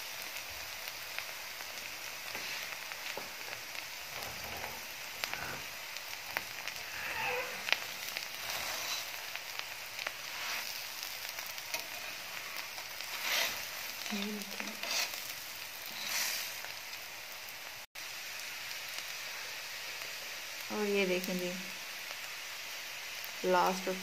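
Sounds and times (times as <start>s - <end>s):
flatbread sizzling on griddle: 0.0s - 24.0s.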